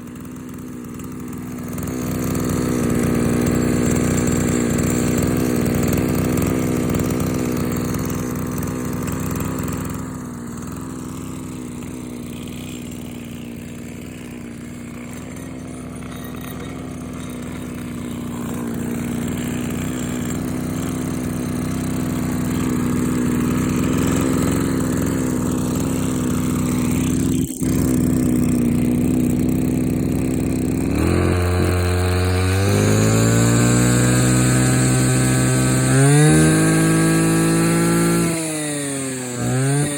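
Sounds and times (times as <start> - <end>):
brush cutter engine revving: 0.0 - 39.9.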